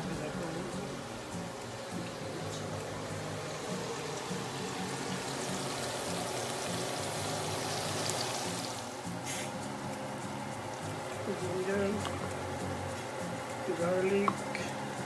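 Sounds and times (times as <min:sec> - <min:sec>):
low background tones: 0:00.0 - 0:15.0
oil sizzling in a pot: 0:00.0 - 0:15.0.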